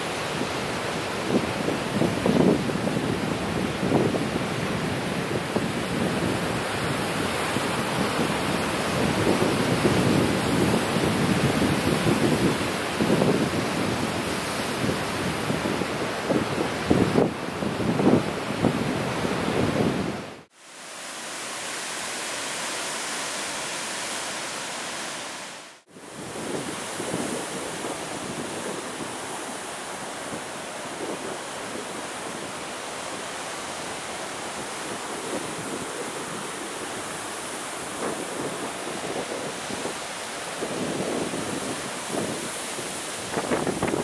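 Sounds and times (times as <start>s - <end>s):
wind gusting on microphone: 0.0s - 20.5s, 25.9s - 44.0s
sea surf: 0.0s - 44.0s.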